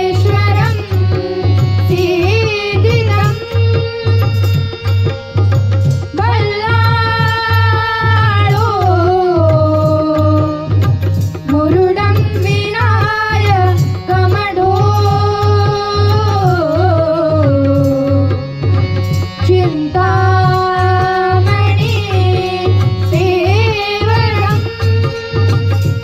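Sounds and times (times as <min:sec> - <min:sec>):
boy singing: 0:00.0 - 0:05.2, 0:05.9 - 0:26.0
instrumental accompaniment: 0:00.0 - 0:26.0.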